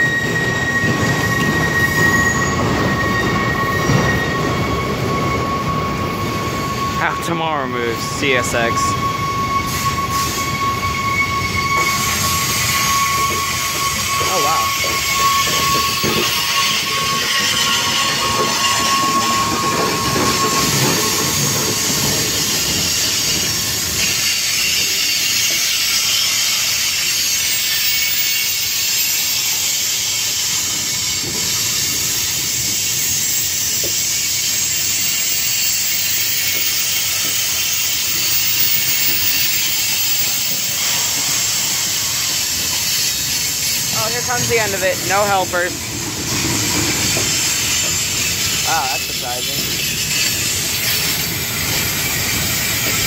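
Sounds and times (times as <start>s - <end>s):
thin wheel squeal: 0.0s - 53.0s
train wheels on rail: 0.0s - 53.0s
hiss: 9.2s - 53.0s.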